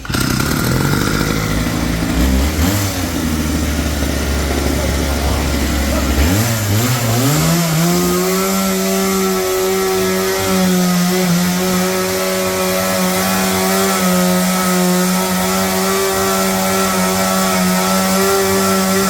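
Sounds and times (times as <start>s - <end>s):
engine revving up: 0.0s - 19.0s.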